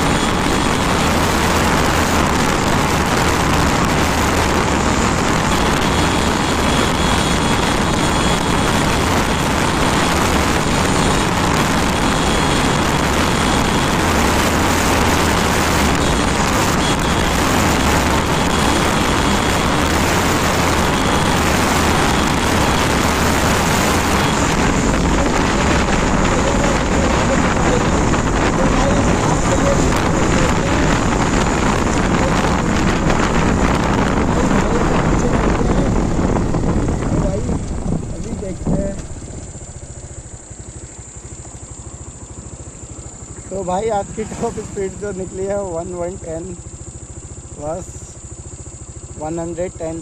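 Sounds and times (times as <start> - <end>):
wind rushing over microphone: 0.0 - 49.8
motorcycle engine at full throttle: 0.0 - 50.0.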